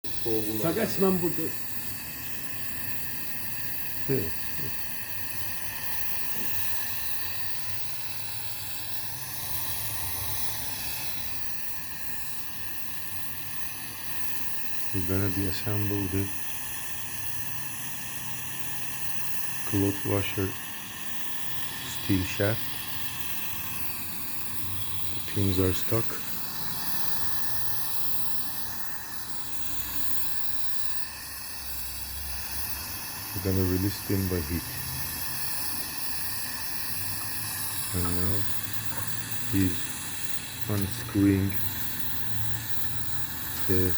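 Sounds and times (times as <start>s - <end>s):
torch flame hissing: 0.0s - 43.9s.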